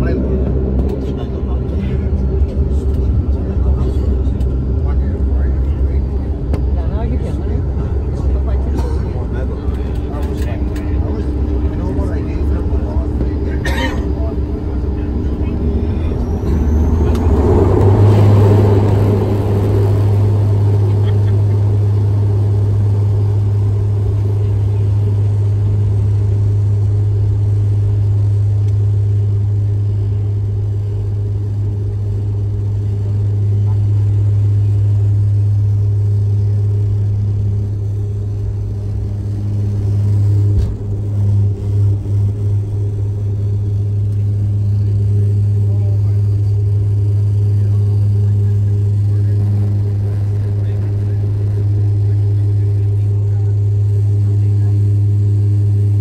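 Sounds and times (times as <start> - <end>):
propellers humming: 0.0 - 56.0
runway rumble: 0.0 - 56.0.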